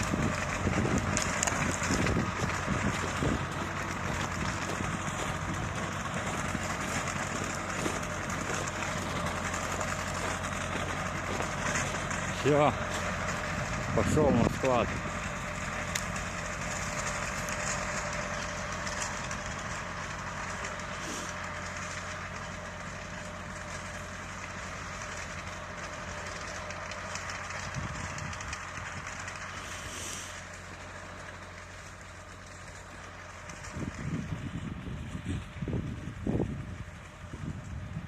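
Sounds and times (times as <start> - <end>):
crawler tractor engine running: 0.0 - 38.0.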